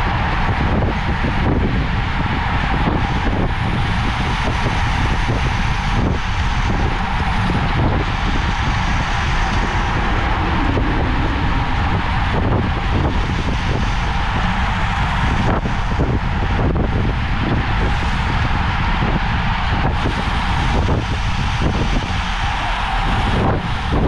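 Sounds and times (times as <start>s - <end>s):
bicycle tyres humming on asphalt: 0.0s - 24.0s
wind buffeting microphone: 0.0s - 24.0s.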